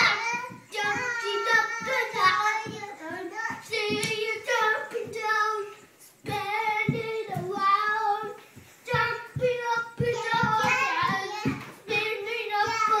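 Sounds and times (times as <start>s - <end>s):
child singing: 0.0s - 13.0s
feet thumping on wooden floor: 0.0s - 13.0s.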